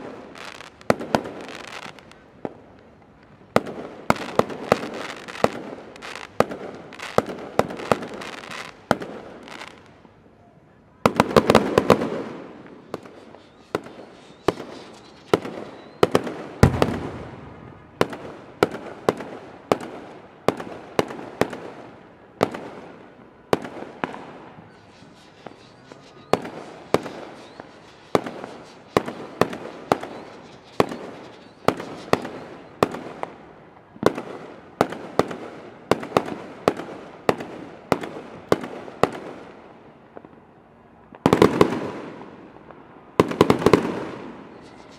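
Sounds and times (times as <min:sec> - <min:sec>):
fireworks bursting: 0:00.0 - 0:10.3, 0:11.0 - 0:44.9.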